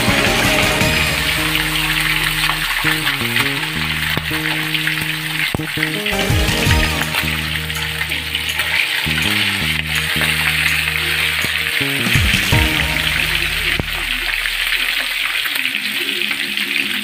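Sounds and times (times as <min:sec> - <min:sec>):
background music with held notes: 0:00.0 - 0:17.0
oil bubbling and sizzling: 0:00.0 - 0:17.0.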